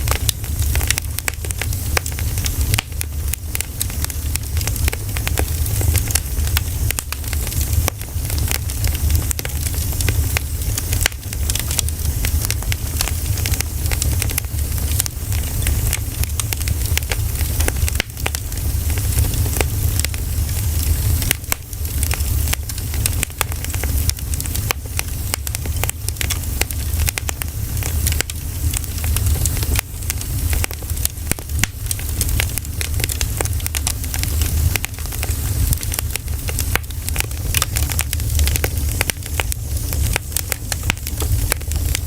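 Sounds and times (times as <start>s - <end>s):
pine cones crackling in fire: 0.0s - 42.0s.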